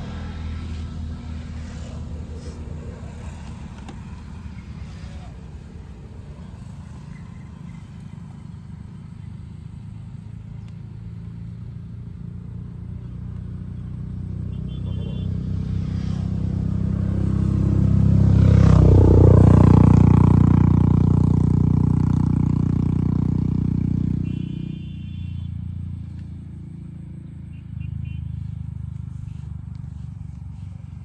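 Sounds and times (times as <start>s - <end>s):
vehicle engine passing by: 0.0s - 31.0s.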